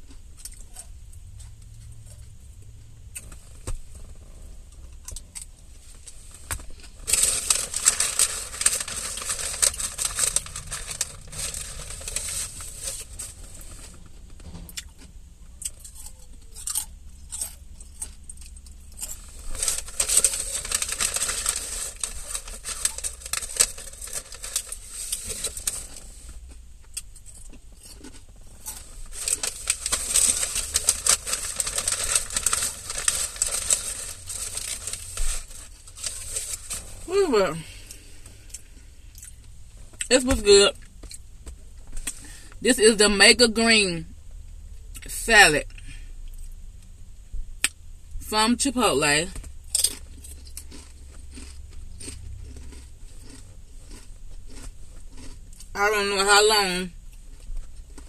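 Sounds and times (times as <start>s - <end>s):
chewing crunchy salad greens: 0.0s - 2.4s, 3.0s - 40.1s, 49.4s - 58.0s.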